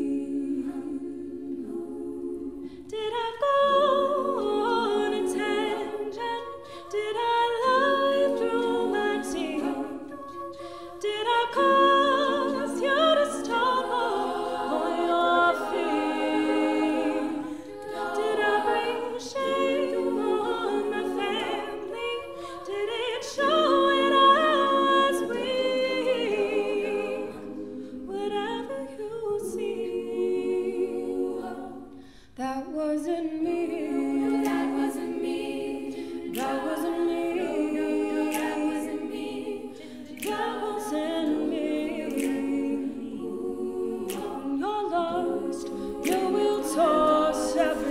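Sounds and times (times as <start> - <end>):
women singing a cappella harmony: 0.0 - 47.9.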